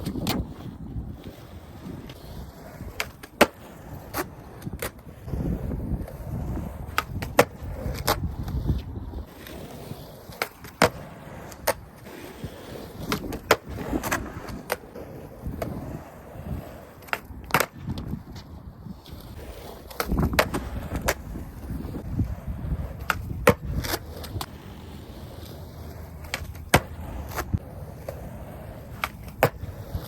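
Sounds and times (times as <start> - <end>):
skateboard clacks: 0.0 - 30.0
skateboard rolling rumble: 0.0 - 30.0.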